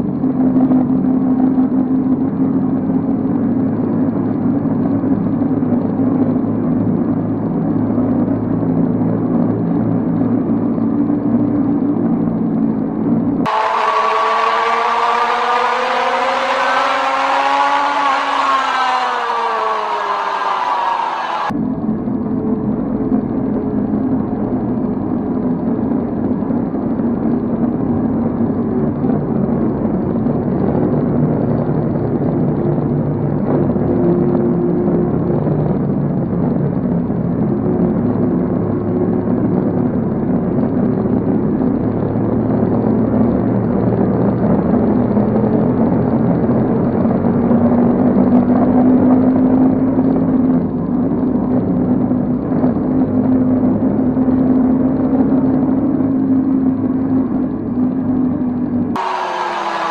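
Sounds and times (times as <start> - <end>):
motorcycle engines running: 0.0 - 59.9.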